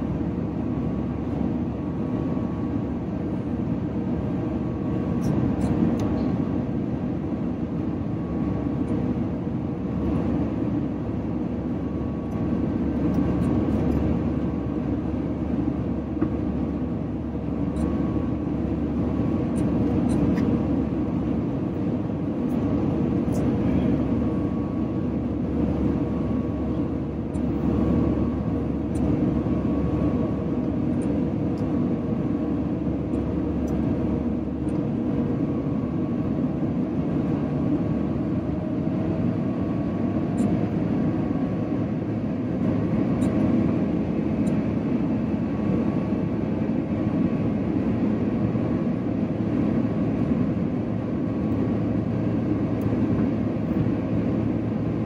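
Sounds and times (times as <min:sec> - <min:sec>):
airflow noise in aircraft cabin: 0:00.0 - 0:55.0
faint steady hum: 0:00.0 - 0:55.0
jet engine running: 0:00.0 - 0:55.0.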